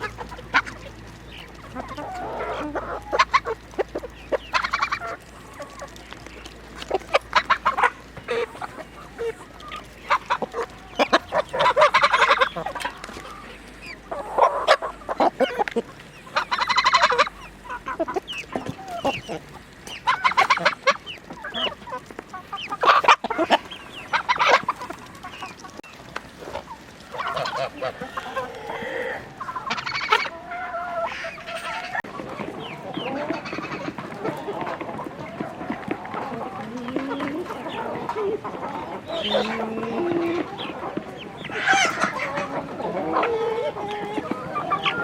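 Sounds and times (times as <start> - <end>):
chickens clucking: 0.0 - 45.0.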